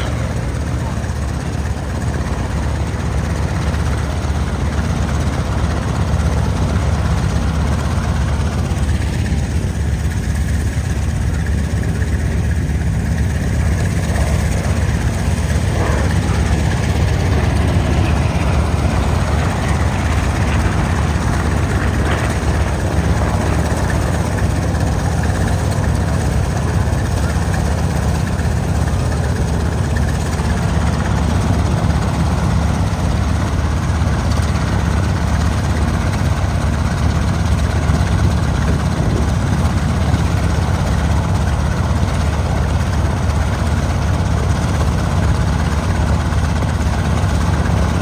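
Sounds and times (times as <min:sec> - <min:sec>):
propeller aircraft engines droning: 0:00.0 - 0:48.0.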